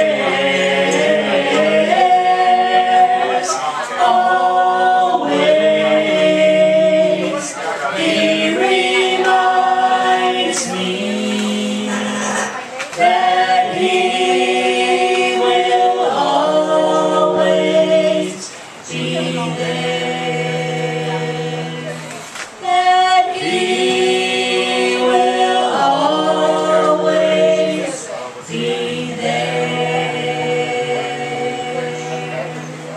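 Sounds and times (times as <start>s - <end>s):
group singing gospel in harmony: 0.0s - 32.9s.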